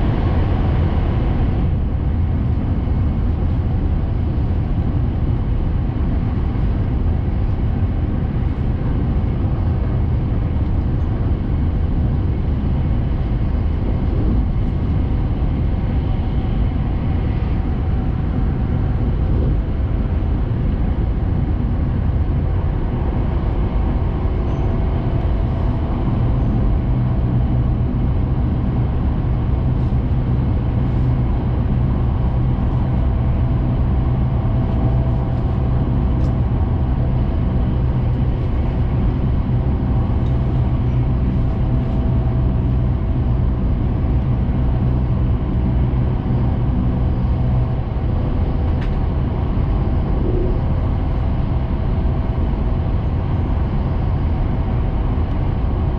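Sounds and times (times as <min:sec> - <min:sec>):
train rumbling at speed: 0:00.0 - 0:55.9.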